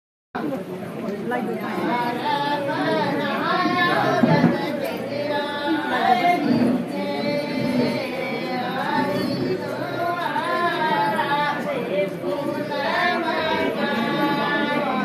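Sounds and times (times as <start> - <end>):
women singing together unaccompanied: 1.6 - 15.0.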